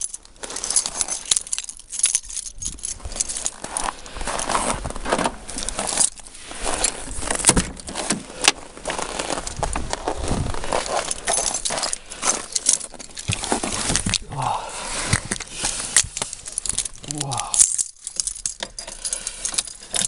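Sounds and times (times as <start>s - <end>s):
rustling and handling noise: 0.0s - 20.0s.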